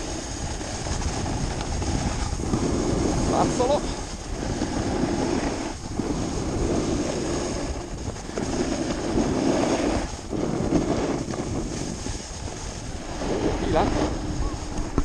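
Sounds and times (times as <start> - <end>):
snowboard scraping over snow: 0.0 - 15.0
wind rushing over microphone: 0.0 - 15.0.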